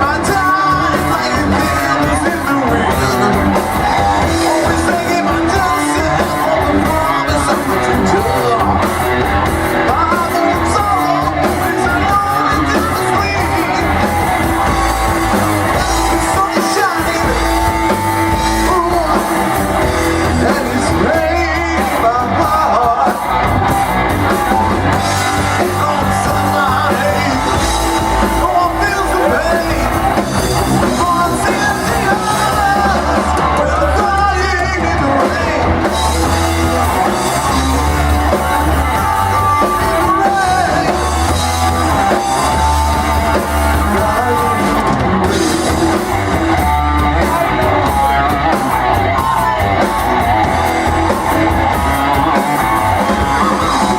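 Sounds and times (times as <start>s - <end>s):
bass guitar: 0.0s - 53.9s
drums: 0.0s - 53.9s
electric guitar: 0.0s - 53.9s
lead singer singing: 0.0s - 53.9s.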